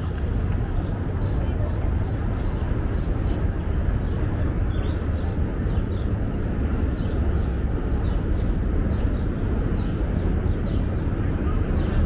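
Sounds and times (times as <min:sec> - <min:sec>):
low city ambience rumble: 0:00.0 - 0:12.0
small birds chirping: 0:00.0 - 0:12.0.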